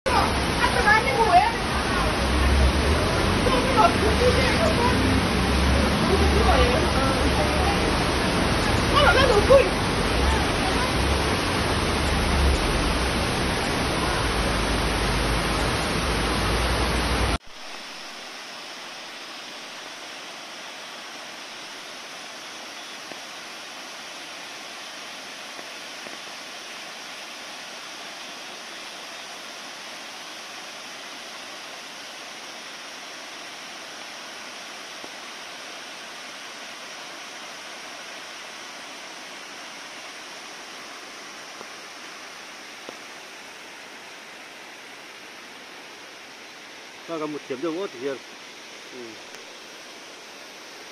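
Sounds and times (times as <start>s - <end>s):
rushing floodwater: 0.1s - 50.9s.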